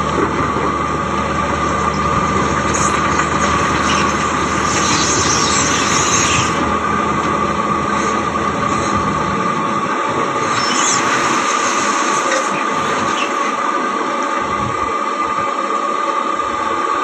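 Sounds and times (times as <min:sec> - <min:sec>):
low engine rumble: 0:00.0 - 0:17.0
truck high whine: 0:00.0 - 0:17.0.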